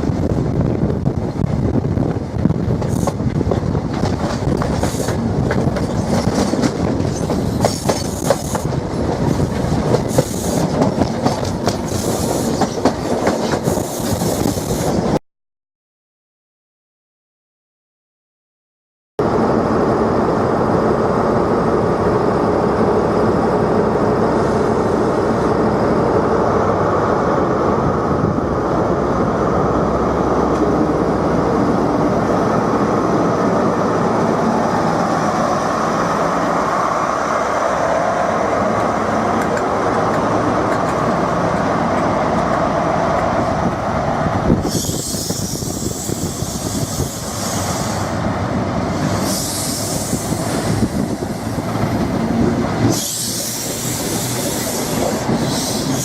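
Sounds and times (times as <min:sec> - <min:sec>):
train rumbling on rails: 0:00.0 - 0:15.2, 0:19.2 - 0:56.0.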